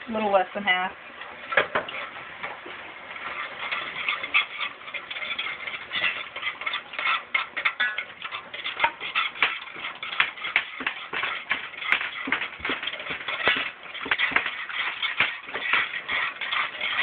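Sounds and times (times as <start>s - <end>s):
metal spoon scraping a saucepan: 3.1s - 17.0s.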